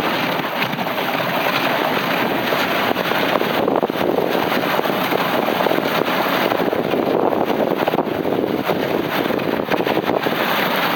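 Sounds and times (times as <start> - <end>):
wind noise on microphone: 0.0 - 10.9.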